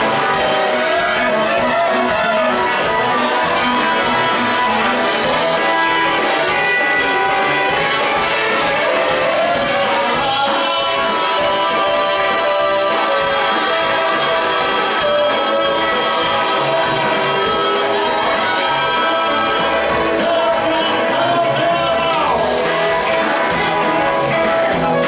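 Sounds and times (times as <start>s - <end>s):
drums: 0.0s - 25.0s
electric guitars: 0.0s - 25.0s
horn section playing: 0.0s - 25.0s.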